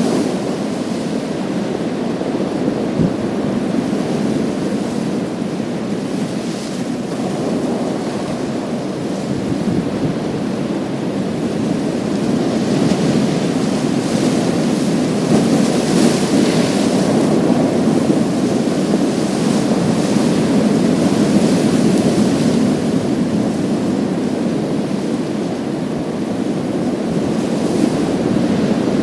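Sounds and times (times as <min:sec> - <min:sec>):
waves breaking on pebble beach: 0:00.0 - 0:29.0.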